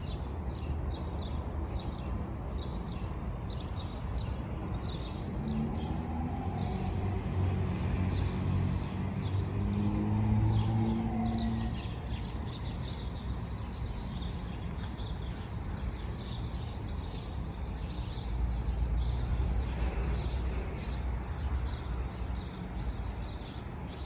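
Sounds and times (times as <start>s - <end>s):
city traffic rumble: 0.0s - 24.0s
small birds chirping: 0.0s - 24.0s.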